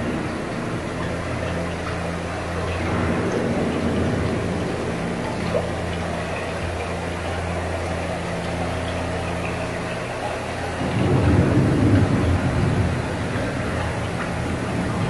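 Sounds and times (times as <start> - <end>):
rain and thunder effect: 0.0 - 15.0
ride boat hum and water wash: 0.0 - 15.0.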